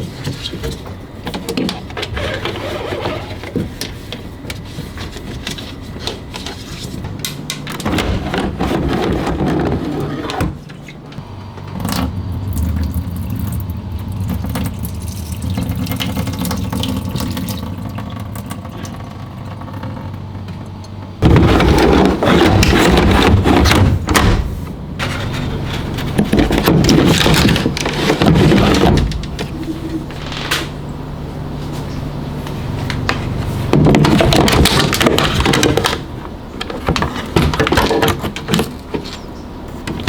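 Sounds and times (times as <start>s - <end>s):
laundry machine motor hum: 0.0s - 40.0s
washing machine rushing churning: 0.0s - 40.0s.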